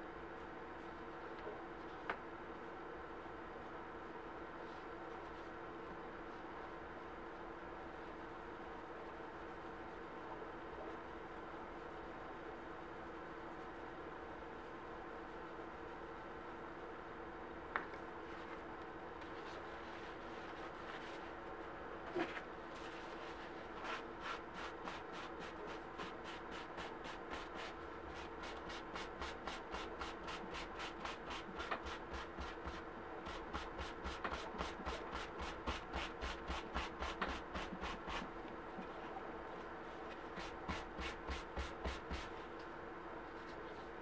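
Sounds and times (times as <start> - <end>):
low background hum: 0.0 - 44.0.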